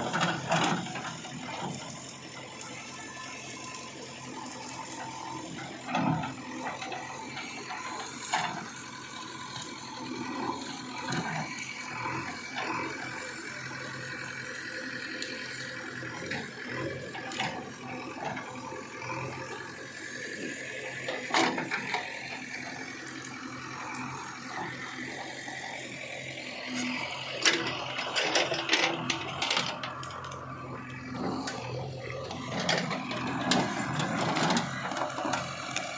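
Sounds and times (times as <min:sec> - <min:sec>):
diesel engine and hydraulics whining: 0:00.0 - 0:35.9.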